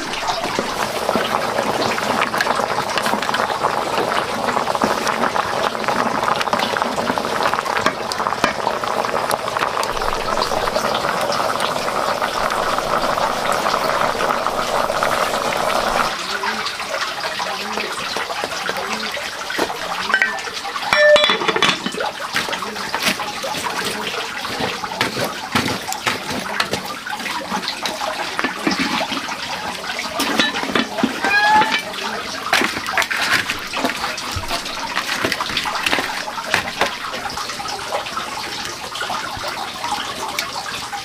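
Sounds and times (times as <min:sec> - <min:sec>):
water running: 0:00.0 - 0:41.0
water splashing: 0:00.0 - 0:41.0.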